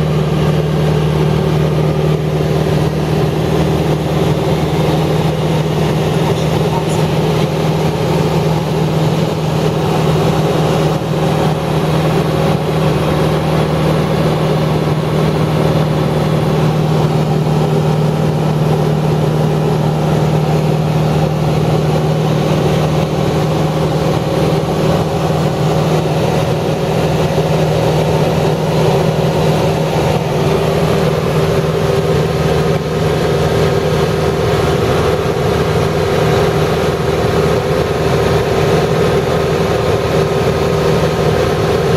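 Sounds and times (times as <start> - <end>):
motor droning steadily: 0.0 - 41.9.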